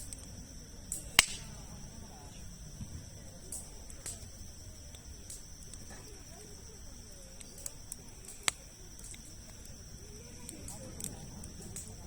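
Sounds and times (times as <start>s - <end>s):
campfire crackling: 0.0s - 12.0s
high insect drone: 0.0s - 12.0s.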